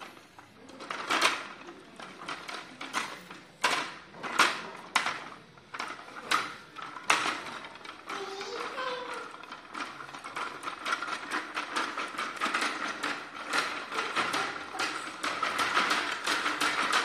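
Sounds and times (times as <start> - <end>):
plastic toy clattering on stone floor: 0.0 - 17.0.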